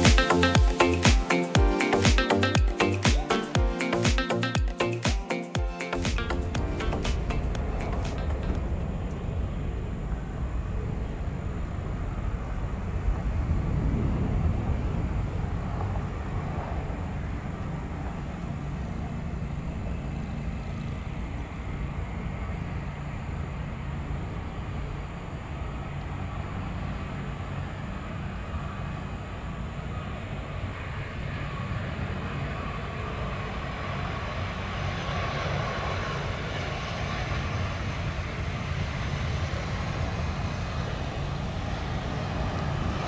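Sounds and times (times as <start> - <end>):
airliner engines rumbling: 0.0 - 43.0
faint engine whine: 6.0 - 43.0.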